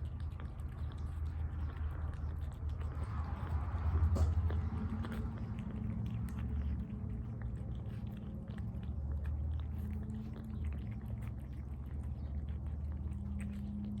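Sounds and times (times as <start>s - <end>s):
cat chewing wetly: 0.0s - 14.0s.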